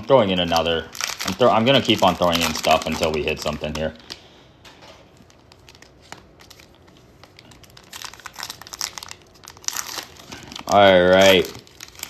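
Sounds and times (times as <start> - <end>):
foil wrapper crinkling and tearing: 0.0 - 4.2, 5.1 - 12.0.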